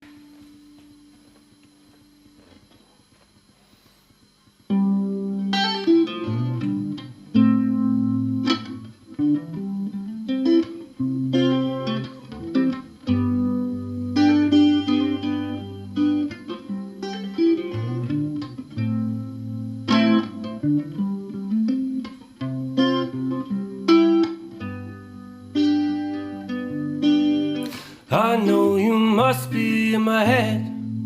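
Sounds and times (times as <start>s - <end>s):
fingerstyle guitar: 0.0s - 31.0s.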